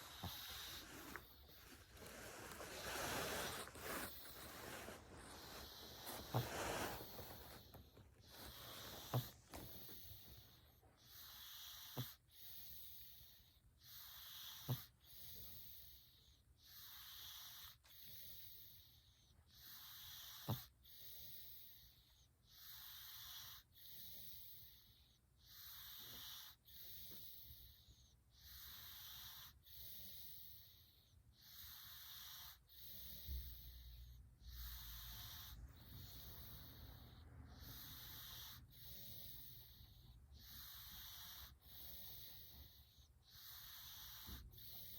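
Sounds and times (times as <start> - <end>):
cat snoring: 0.0 - 44.9.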